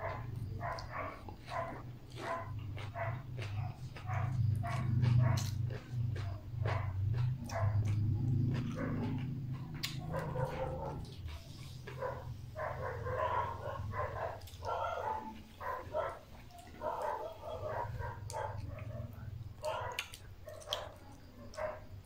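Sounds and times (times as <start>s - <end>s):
dogs barking: 0.0s - 22.0s
person eating with hands: 0.0s - 22.0s.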